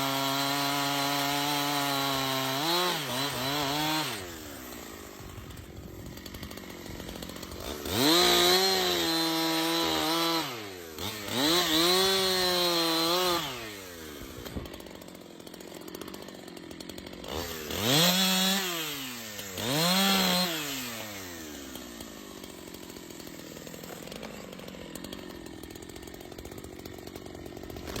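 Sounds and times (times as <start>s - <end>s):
chainsaw engine revving and idling: 0.0s - 28.0s.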